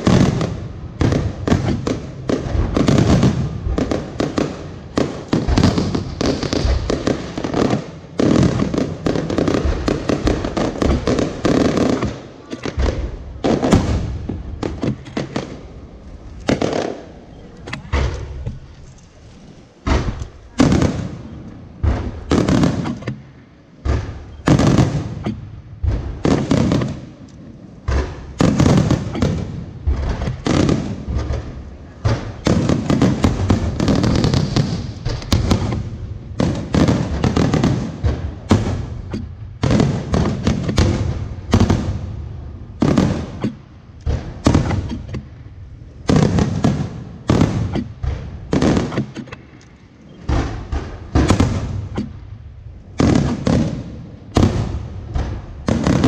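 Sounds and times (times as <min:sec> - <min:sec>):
fireworks bangs and bursts: 0:00.0 - 0:18.6, 0:19.8 - 0:56.0.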